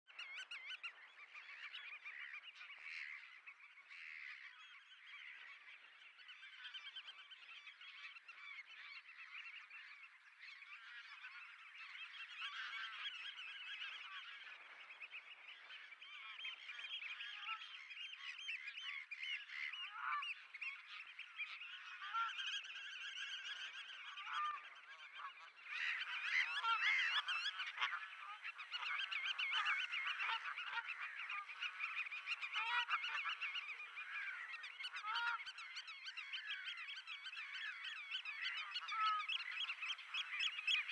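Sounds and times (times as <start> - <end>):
flock of birds calling: 0.1 - 40.9.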